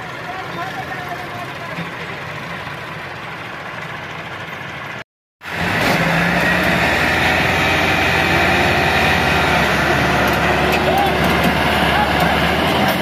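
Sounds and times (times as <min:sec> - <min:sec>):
tractor diesel engine straining: 0:00.0 - 0:13.0.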